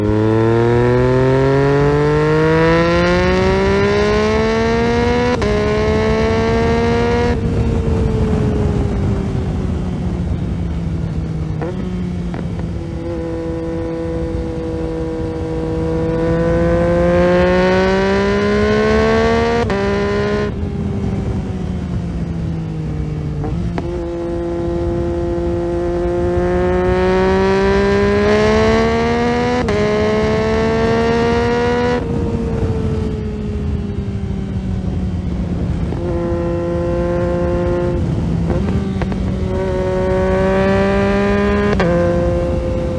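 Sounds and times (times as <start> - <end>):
motorcycle engine accelerating hard: 0.0 - 42.9
quickshifter upshifts: 0.0 - 42.9.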